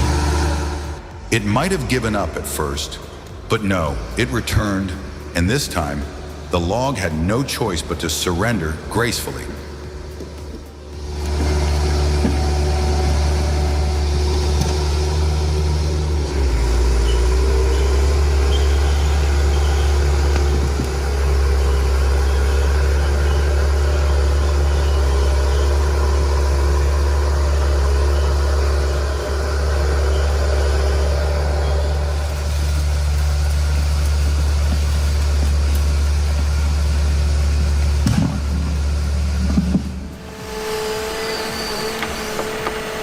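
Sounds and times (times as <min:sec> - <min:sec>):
heavy machine engine droning: 0:00.0 - 0:43.0.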